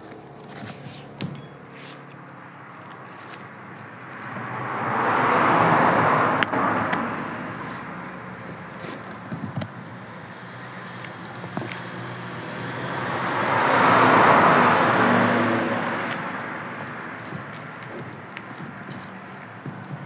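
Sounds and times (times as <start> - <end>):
road vehicle passing: 0.0 - 20.0.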